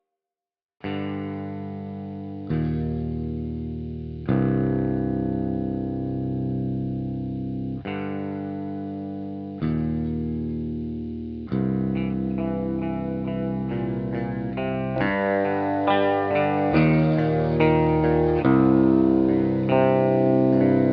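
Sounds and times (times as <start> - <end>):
electric guitar chords ringing: 0.8 - 20.9
picked guitar notes: 0.8 - 20.9.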